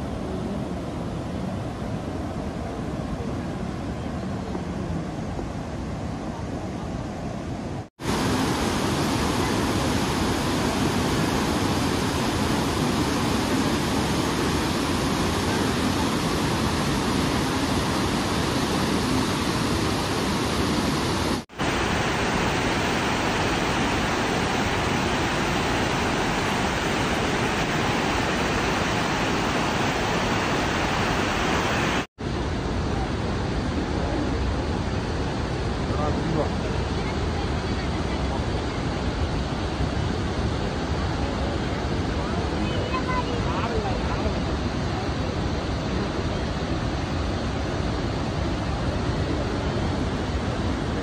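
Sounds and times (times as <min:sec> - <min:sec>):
river rapids rushing: 0:08.0 - 0:51.0.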